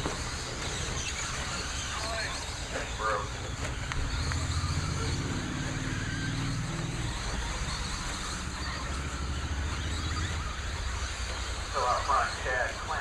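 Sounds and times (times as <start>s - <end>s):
constant low rumble: 0.0s - 13.0s
rc truck motors and tyres: 0.0s - 13.0s.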